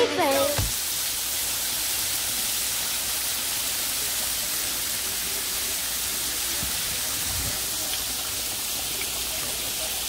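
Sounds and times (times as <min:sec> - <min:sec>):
bacon sizzling in a frying pan: 0:00.0 - 0:10.0.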